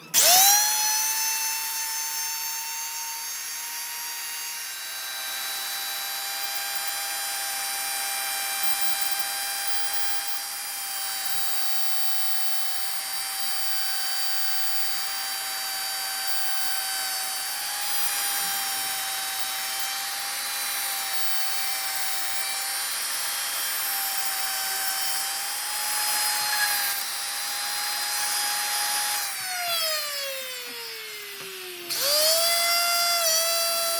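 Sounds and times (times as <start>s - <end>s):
router bit cutting wood hiss: 0.0s - 33.9s
wood router whining: 0.0s - 33.9s.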